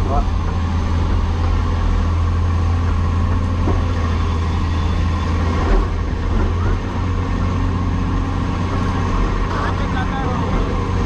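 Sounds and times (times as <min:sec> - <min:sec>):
excavator diesel engine humming: 0:00.0 - 0:11.0.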